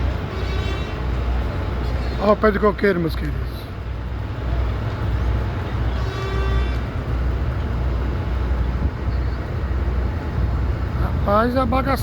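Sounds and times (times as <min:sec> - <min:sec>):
rumble of road traffic: 0:00.0 - 0:12.0.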